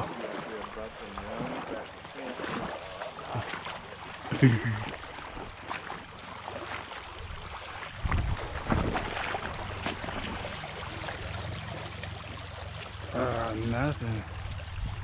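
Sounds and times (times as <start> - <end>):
creek running over gravel: 0.0 - 15.0.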